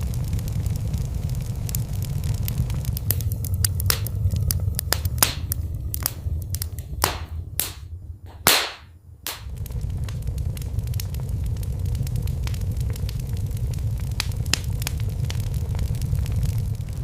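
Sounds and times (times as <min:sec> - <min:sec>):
fire popping and snapping: 0:00.0 - 0:17.0
low rumble of fire: 0:00.0 - 0:17.0
wood fire crackling: 0:00.0 - 0:17.0.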